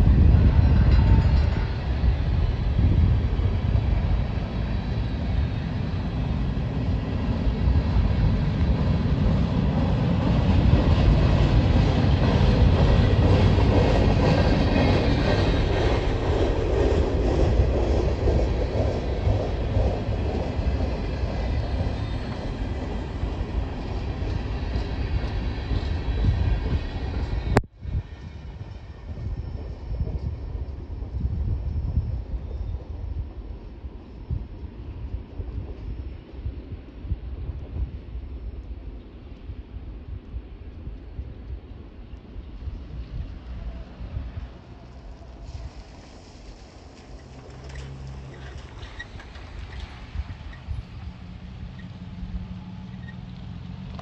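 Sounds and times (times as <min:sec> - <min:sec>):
train clatter over crossing: 0:00.0 - 0:38.2, 0:40.7 - 0:54.0
freight train rumbling on rails: 0:00.0 - 0:54.0.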